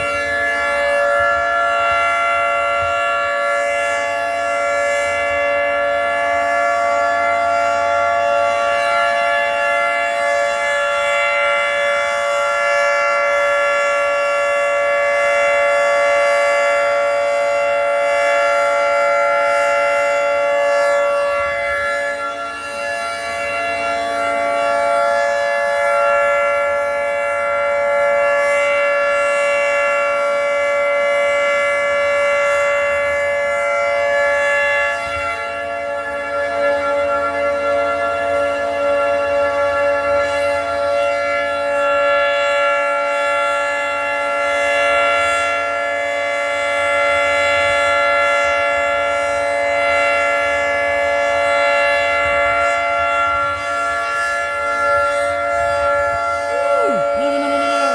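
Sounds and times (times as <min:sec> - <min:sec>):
warning siren steady chord: 0:00.0 - 0:57.9.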